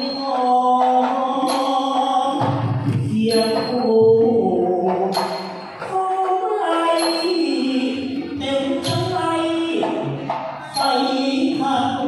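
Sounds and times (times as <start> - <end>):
ringing percussion stroke: 0.0 - 6.1, 6.7 - 9.6, 10.6 - 12.0
man singing through a microphone: 0.0 - 12.0.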